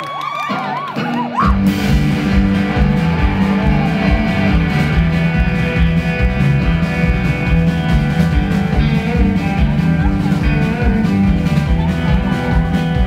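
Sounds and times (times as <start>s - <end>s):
live band playing country-rock: 0.4s - 13.0s.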